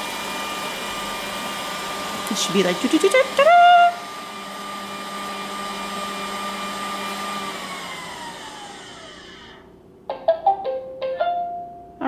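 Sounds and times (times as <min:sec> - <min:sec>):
suction motor whining: 0:00.0 - 0:09.7.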